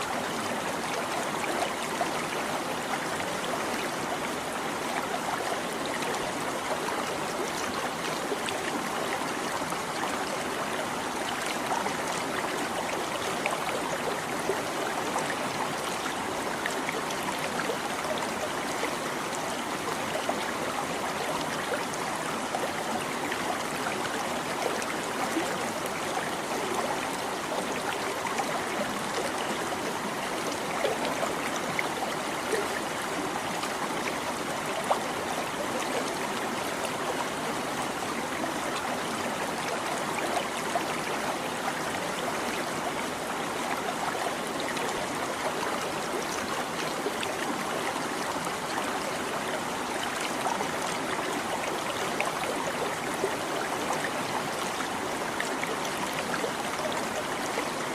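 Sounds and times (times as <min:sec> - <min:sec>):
stream babbling over stones: 0:00.0 - 0:57.9.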